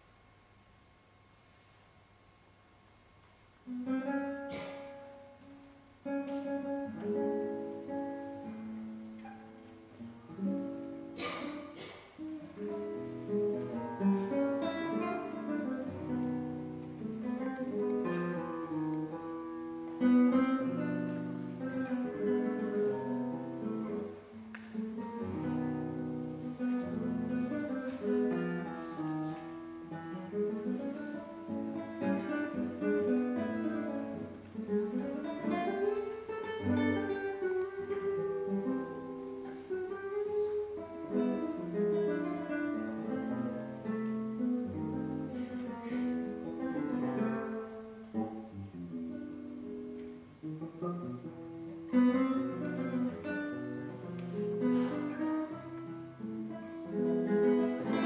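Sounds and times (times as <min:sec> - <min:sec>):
classical guitar fingerstyle: 0:00.0 - 0:58.0.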